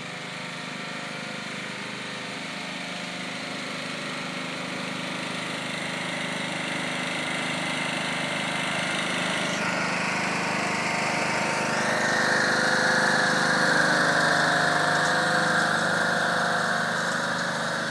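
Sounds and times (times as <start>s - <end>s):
lawn tractor engine running: 0.0s - 17.9s.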